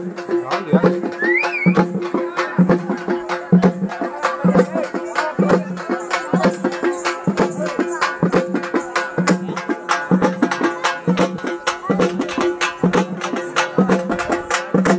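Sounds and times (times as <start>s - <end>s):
fast rhythmic drum strikes: 0.0s - 14.9s.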